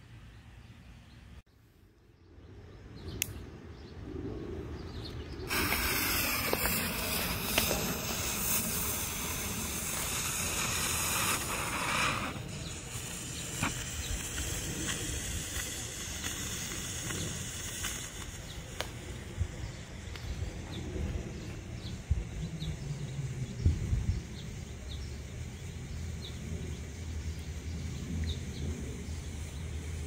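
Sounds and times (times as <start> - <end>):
smoke bomb hissing: 5.4 - 30.0.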